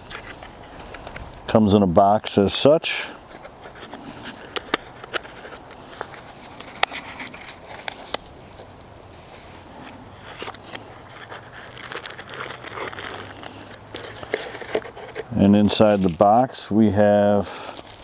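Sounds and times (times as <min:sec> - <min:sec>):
cardboard scraping and rustling: 0:03.2 - 0:18.0.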